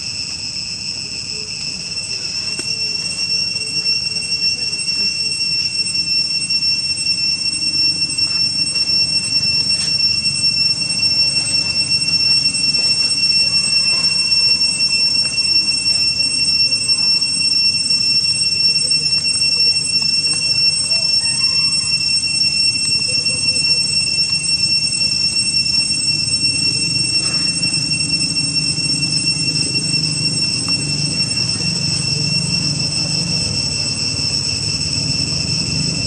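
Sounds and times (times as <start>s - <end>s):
cicadas droning: 0.0s - 36.0s.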